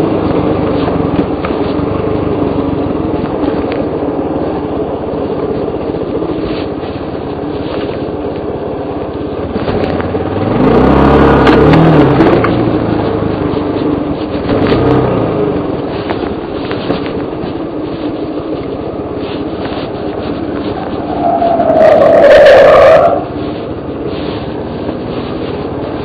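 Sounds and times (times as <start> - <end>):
motorcycle engine running: 0.0 - 21.5, 23.2 - 26.0.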